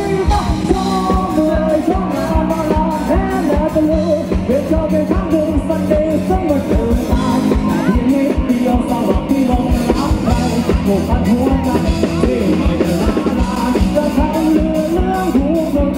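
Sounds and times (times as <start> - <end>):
electric guitar: 0.0 - 15.9
person singing: 0.0 - 15.9
steady drum beat: 0.0 - 15.9.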